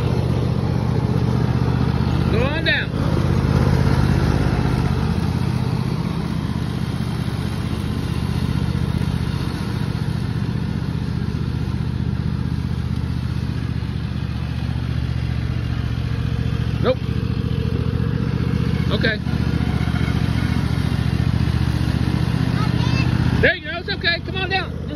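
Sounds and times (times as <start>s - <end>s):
riding mower engine running: 0.0s - 24.9s.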